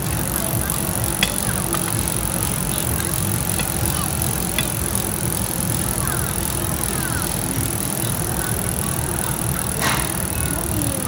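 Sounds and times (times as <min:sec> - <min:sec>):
clinks: 0:00.0 - 0:11.0
faint voices: 0:00.0 - 0:11.0
music playing: 0:00.0 - 0:11.0.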